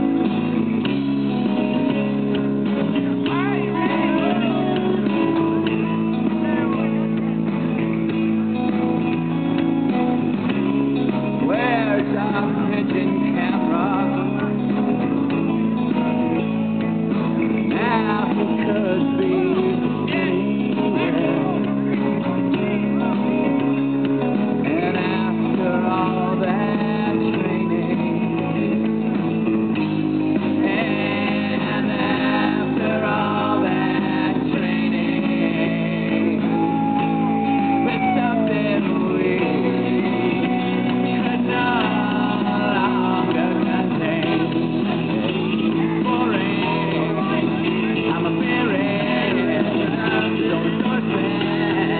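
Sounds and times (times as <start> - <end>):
song with singing over guitar: 0.0 - 51.9.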